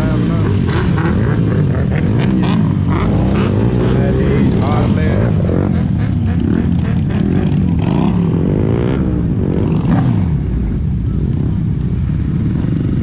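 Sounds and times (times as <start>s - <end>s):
motorcycle engine revving: 0.0s - 13.0s
motorcycle engines idling: 0.0s - 13.0s.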